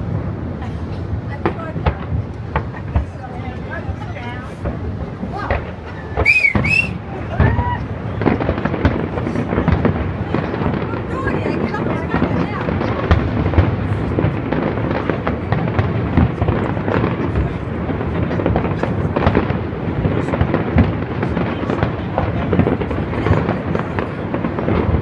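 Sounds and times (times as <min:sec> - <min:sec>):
fireworks booming and crackling: 0:00.0 - 0:25.0.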